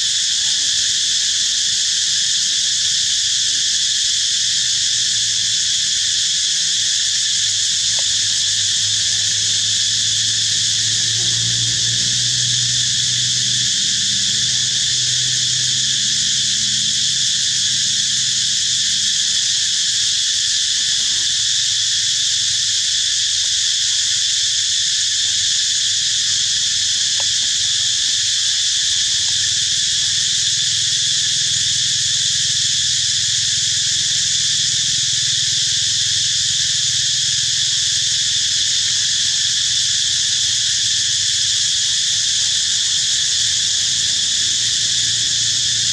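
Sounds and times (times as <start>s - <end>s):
insect chorus drone: 0.0s - 45.9s.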